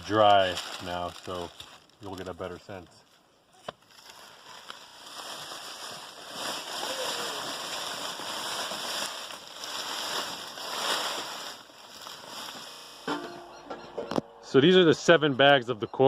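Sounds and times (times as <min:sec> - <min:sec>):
dry corn husks rustling: 0:00.0 - 0:13.6.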